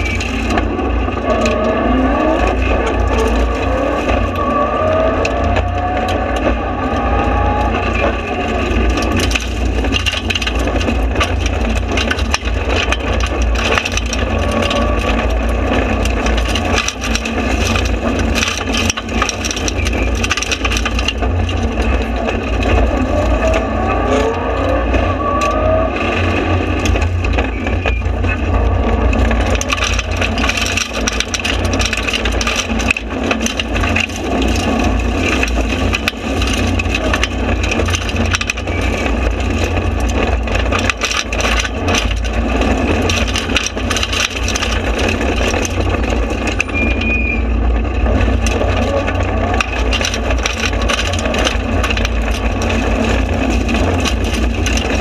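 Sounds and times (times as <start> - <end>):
car engine accelerating: 0.0 - 55.0
gravel rattling against car: 0.0 - 55.0.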